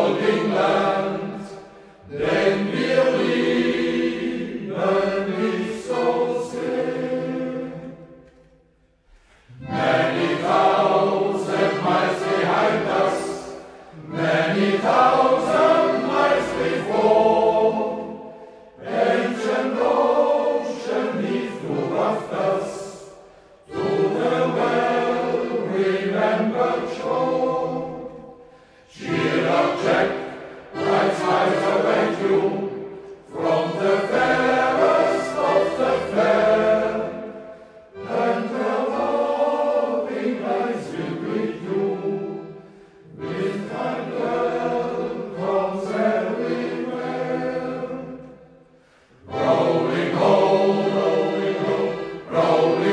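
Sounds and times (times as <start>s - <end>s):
choir singing slowly: 0.0s - 52.9s.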